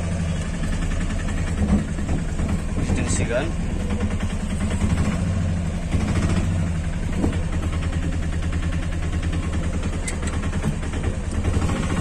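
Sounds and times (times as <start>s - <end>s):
auto-rickshaw engine running: 0.0s - 12.0s.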